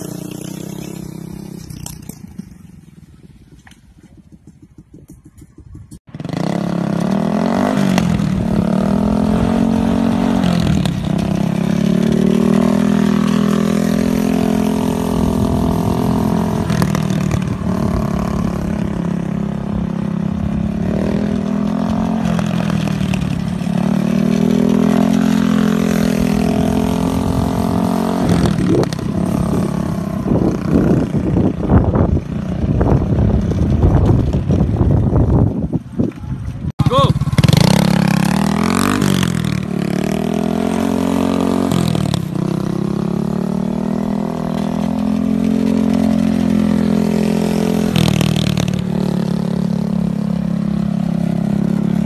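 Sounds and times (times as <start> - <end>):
go-kart engine running: 0.0 - 52.0.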